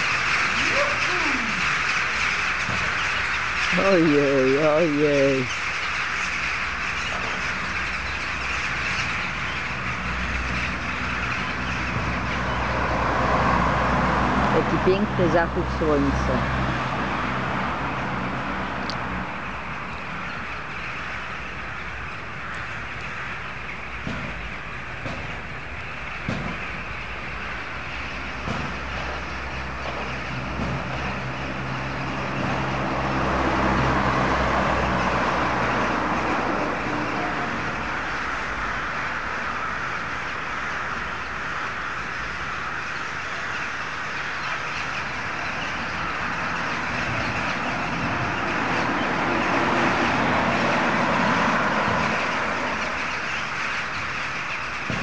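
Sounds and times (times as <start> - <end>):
flock of birds chattering: 0.0 - 55.0
vehicle engine humming: 0.0 - 55.0.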